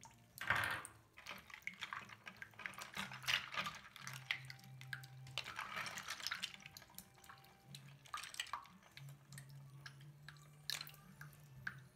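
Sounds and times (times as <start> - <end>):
small splashes and drips: 0.0 - 11.9.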